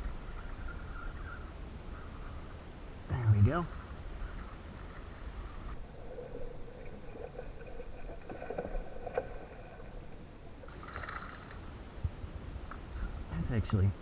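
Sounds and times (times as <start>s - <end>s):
water and canoe hull noise: 0.0s - 5.8s, 6.8s - 14.0s.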